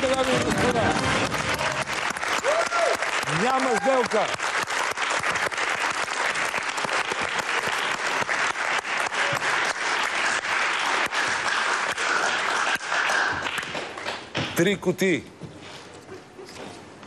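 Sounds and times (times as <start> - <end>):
people clapping: 0.0 - 14.8.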